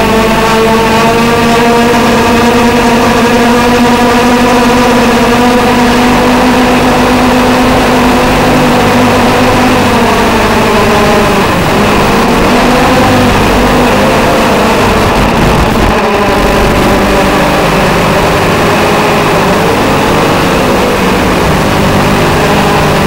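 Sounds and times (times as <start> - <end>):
drone motors and propellers whining: 0.0 - 23.0.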